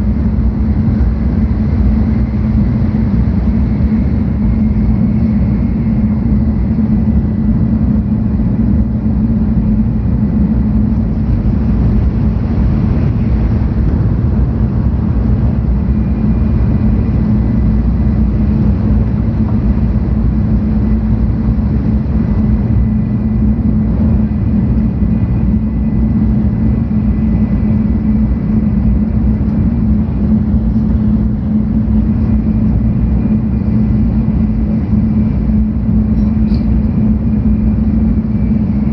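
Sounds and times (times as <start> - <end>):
faint high whine: 0.0 - 38.9
train interior rumble: 0.0 - 38.9.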